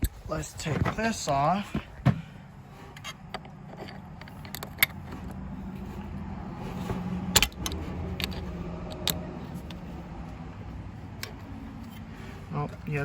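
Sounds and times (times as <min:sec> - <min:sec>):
low hum: 0:01.8 - 0:13.0.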